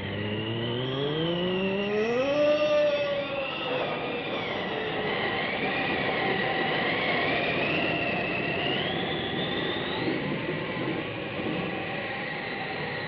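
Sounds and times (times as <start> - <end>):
eerie wavering whistling tones: 0.0 - 13.0.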